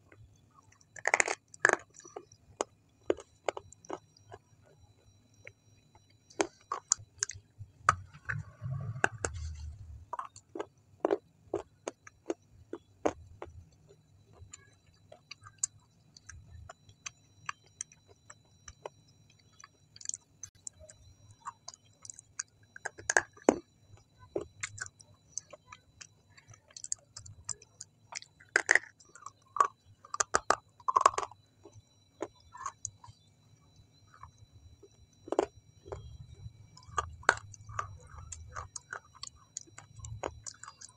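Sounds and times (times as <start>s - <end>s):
person chewing soft food: 0.0s - 40.9s.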